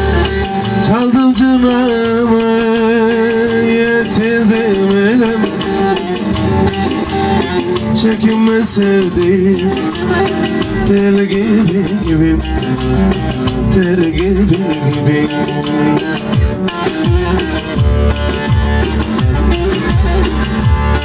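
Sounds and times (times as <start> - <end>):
long-necked lute strummed fast: 0.0 - 21.0.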